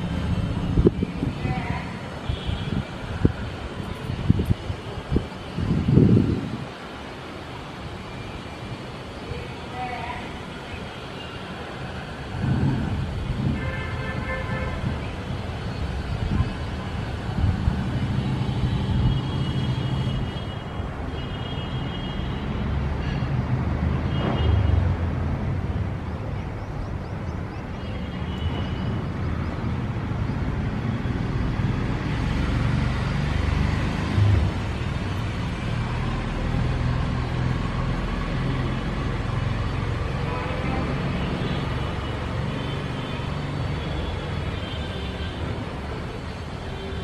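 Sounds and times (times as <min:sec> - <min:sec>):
traffic rumble: 0:00.0 - 0:47.0.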